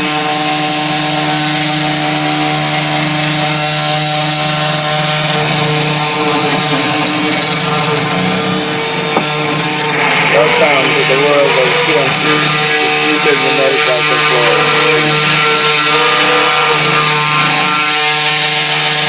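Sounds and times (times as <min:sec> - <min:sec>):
router bit cutting wood hiss: 0:00.0 - 0:19.0
spindle motor whine: 0:00.0 - 0:19.0.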